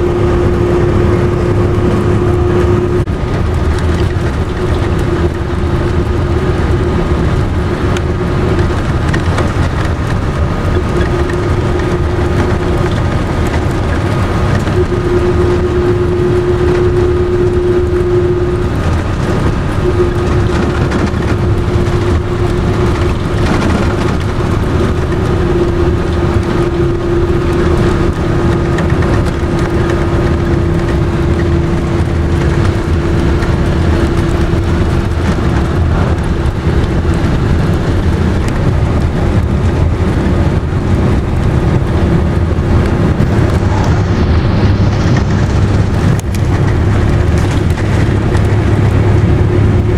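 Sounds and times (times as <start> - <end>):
car road and engine noise: 0.0 - 49.9
low hum: 0.0 - 49.9.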